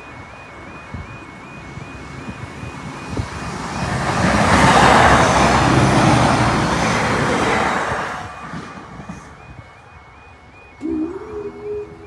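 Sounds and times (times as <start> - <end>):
train passing with loud rush: 0.0 - 12.0.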